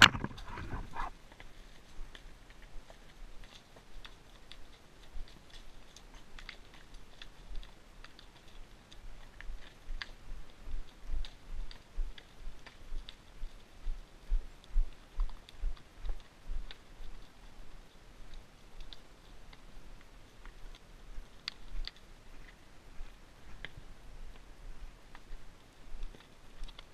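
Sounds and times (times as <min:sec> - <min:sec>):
hooves clicking on stones: 0:00.0 - 0:26.9
horse hooves thudding: 0:00.0 - 0:26.9.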